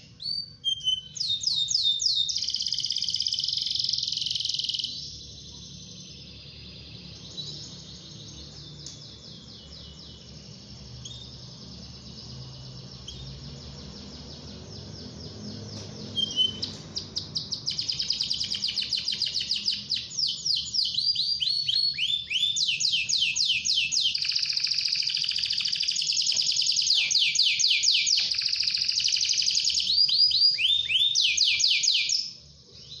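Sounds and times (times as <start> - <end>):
canary singing trills: 0.0 - 33.0.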